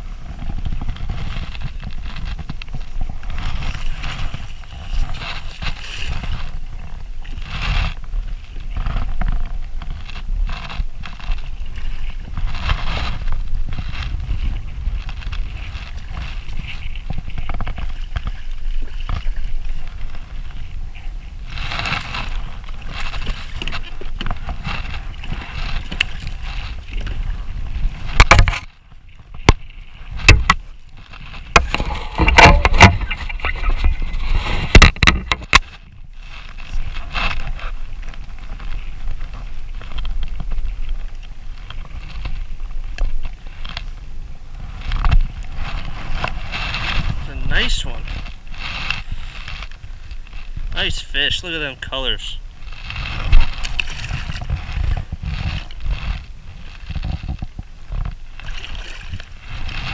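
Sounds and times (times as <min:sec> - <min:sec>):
knocks and scrapes on kayak: 0:00.0 - 0:59.9
water lapping against kayak hull: 0:00.0 - 0:59.9.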